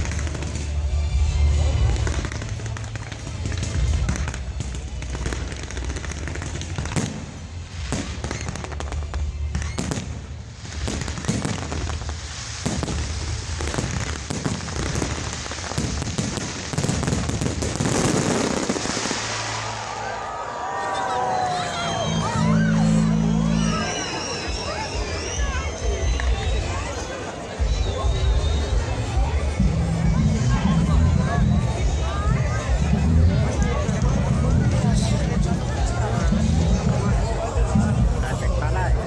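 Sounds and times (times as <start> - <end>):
fireworks bangs and crackles: 0.0 - 20.2, 23.8 - 39.0.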